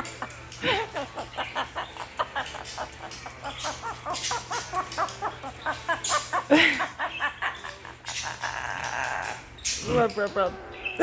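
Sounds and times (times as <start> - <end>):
macaw chattering: 0.0 - 11.0.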